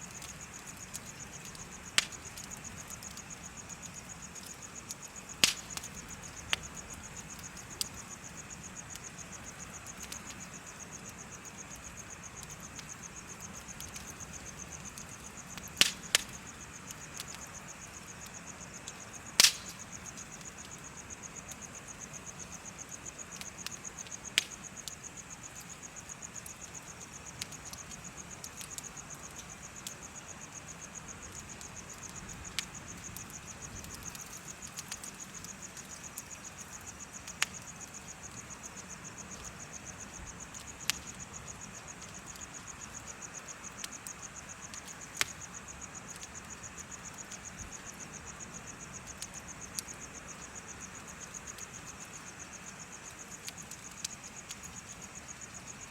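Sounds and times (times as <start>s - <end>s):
bonfire hissing and popping: 0.0s - 55.9s
crickets chirping: 0.0s - 55.9s.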